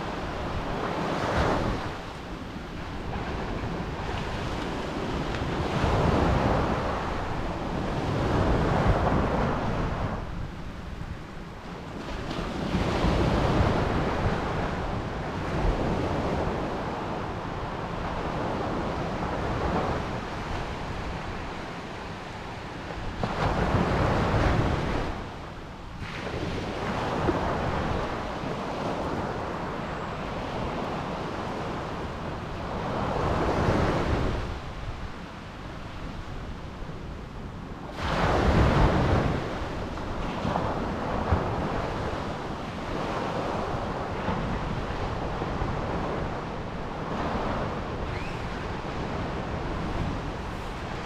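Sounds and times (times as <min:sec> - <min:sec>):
ocean surf washing in and out: 0:00.0 - 0:51.0.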